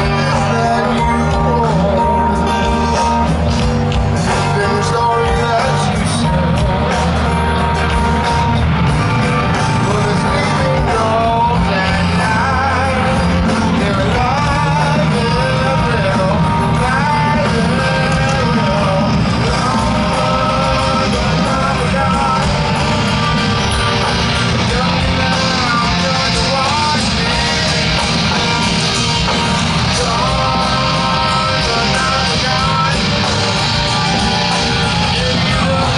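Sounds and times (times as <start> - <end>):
distorted electric guitar: 0.0 - 35.9
drums: 0.0 - 35.9
heavy metal band playing: 0.0 - 35.9
man singing: 0.0 - 35.9.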